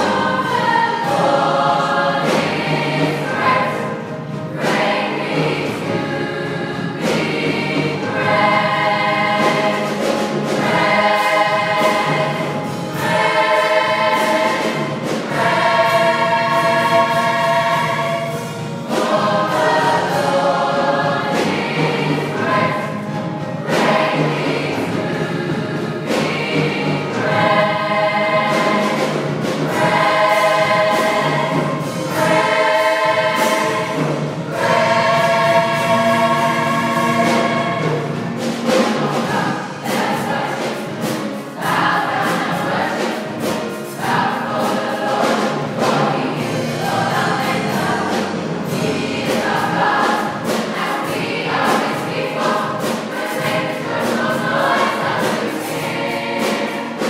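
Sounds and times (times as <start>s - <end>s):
gospel choir singing: 0.0s - 57.0s.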